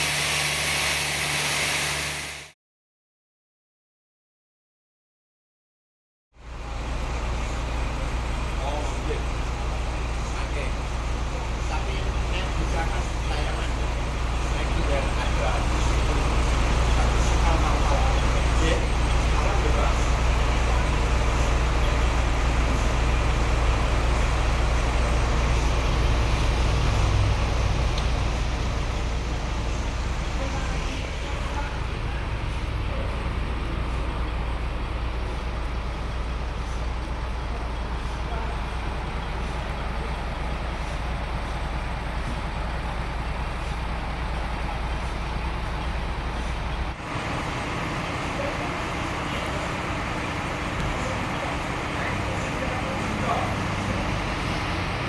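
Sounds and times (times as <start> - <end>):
sawmill machinery running: 0.0 - 2.5, 6.4 - 55.0.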